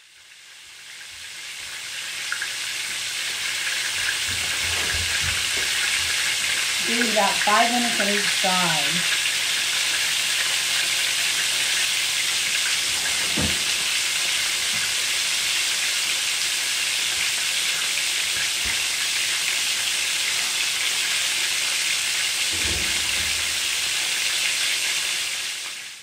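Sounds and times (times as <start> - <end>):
chicken frying in hot oil: 0.0 - 26.0.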